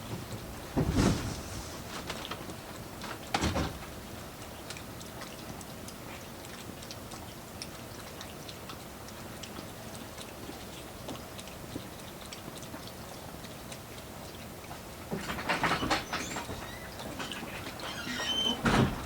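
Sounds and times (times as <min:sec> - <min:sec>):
cats chewing and licking: 0:02.0 - 0:19.0.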